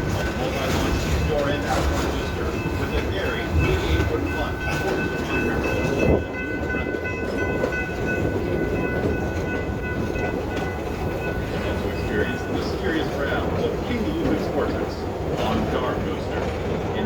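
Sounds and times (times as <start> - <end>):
train cars rumbling on track: 0.0 - 17.0.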